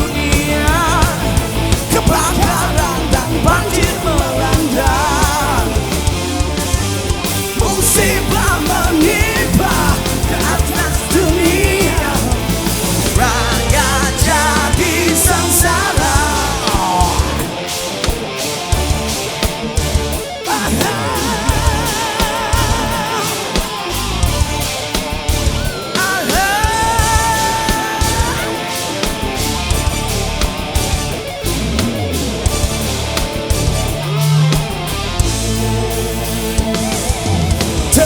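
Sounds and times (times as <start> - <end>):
drum kit: 0.0 - 38.0
electric lead guitar: 0.0 - 38.0.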